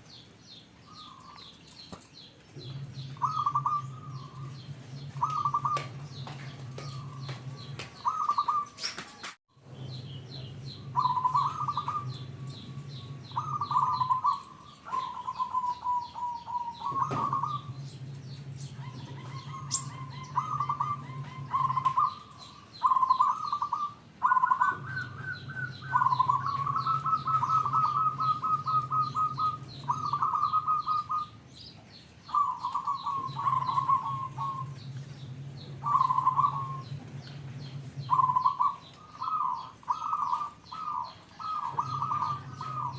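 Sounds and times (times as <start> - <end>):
small birds chirping: 0.0 - 42.9
low hum: 2.4 - 8.1, 9.5 - 31.9, 32.5 - 42.9
dove cooing: 2.6 - 9.2, 10.0 - 31.4, 32.2 - 42.9.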